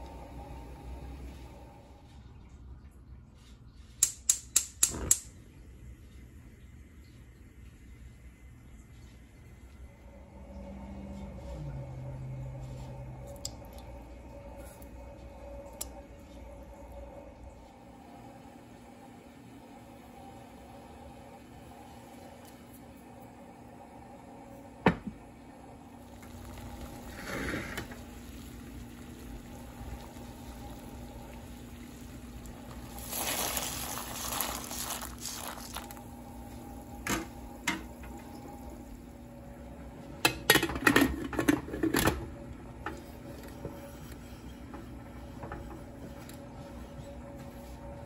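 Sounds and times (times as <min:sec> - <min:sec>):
pot of water boiling: 0:00.0 - 0:02.7, 0:04.6 - 0:48.0.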